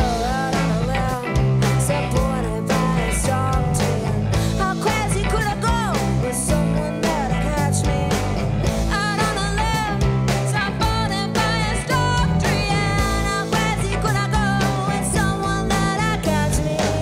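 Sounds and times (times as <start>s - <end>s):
drum kit: 0.0s - 17.0s
electric bass: 0.0s - 17.0s
electric guitar: 0.0s - 17.0s
woman singing: 0.0s - 17.0s.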